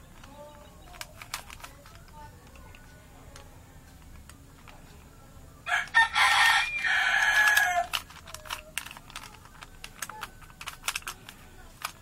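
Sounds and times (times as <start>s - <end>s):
puzzle cube clicking as turned: 0.0s - 4.8s, 5.7s - 12.0s.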